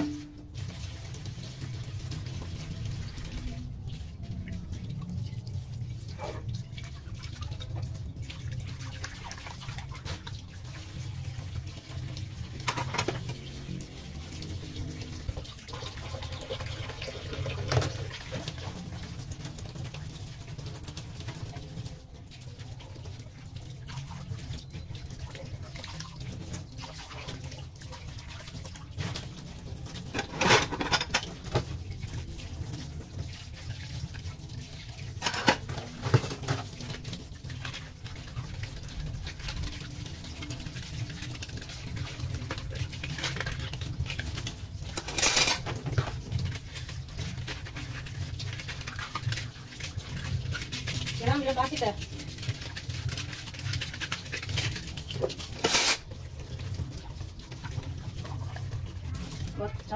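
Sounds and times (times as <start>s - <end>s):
tap water running into sink: 0.0s - 59.9s.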